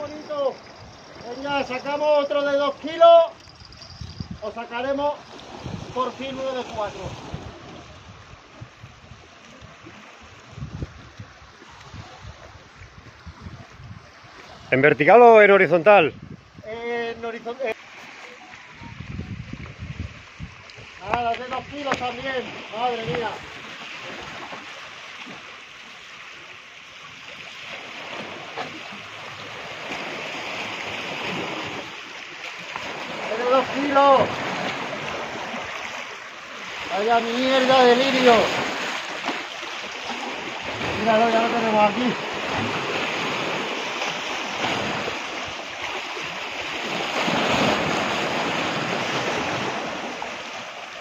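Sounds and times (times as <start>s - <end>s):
surf washing over rocks: 0.0s - 51.0s.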